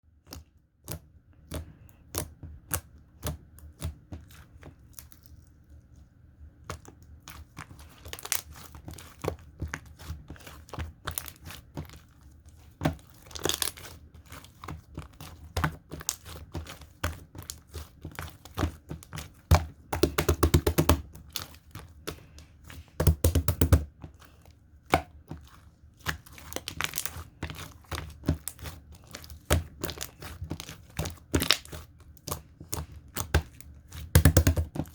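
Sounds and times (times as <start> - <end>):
hands squishing slime: 0.1 - 34.9.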